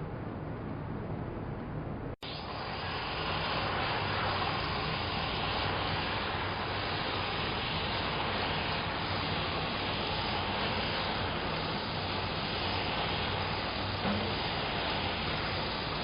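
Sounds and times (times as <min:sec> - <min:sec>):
steam mop hissing: 0:02.2 - 0:16.0.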